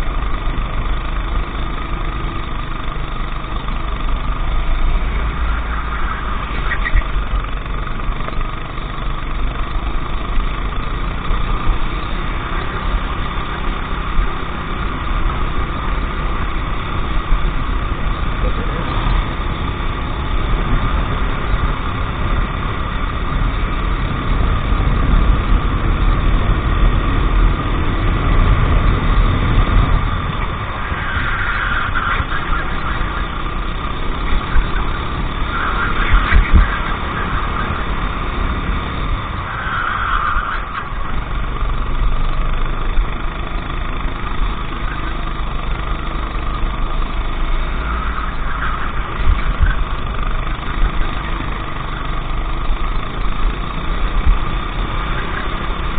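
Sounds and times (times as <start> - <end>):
racing kart engines: 0.0 - 55.9.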